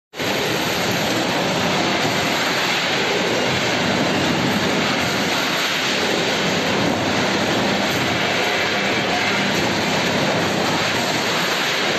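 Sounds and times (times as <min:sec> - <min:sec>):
food-packing machinery running: 0:00.1 - 0:11.9.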